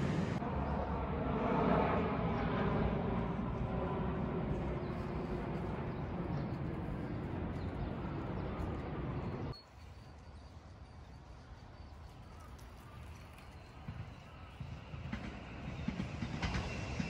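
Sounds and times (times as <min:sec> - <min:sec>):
steady low outdoor noise: 0:00.0 - 0:15.7
street ambience: 0:00.0 - 0:17.0.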